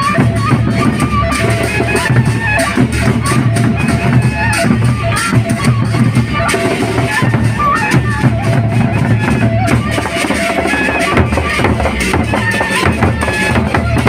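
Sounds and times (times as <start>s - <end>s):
stepped melodic line: 0.0s - 14.0s
deep drums beating: 2.1s - 14.0s.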